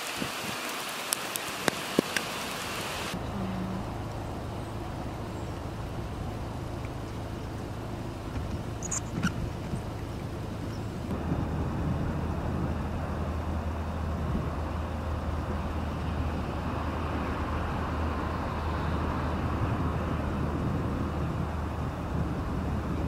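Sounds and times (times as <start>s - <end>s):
vehicle engine running: 2.6s - 23.0s.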